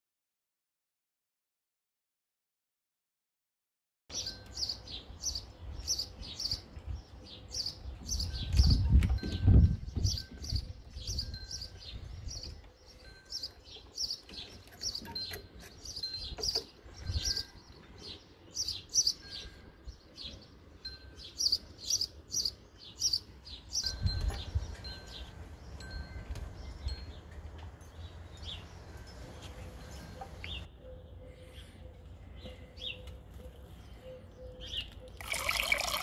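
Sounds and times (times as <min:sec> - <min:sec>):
small birds chirping: 0:04.1 - 0:36.0.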